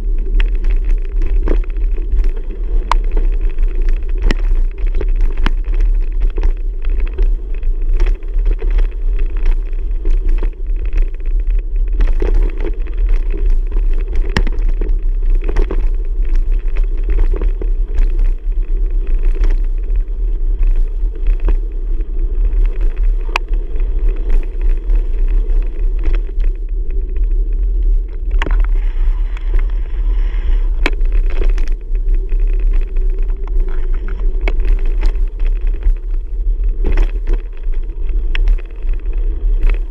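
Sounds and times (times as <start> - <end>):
wind rumble on microphone: 0.0 - 39.9
bike clicks and knocks: 0.1 - 27.2, 30.6 - 39.9.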